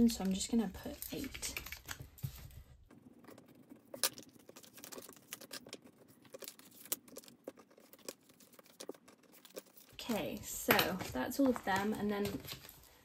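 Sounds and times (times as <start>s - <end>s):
paper cards clicking and rustling: 0.0s - 2.6s, 3.2s - 13.0s.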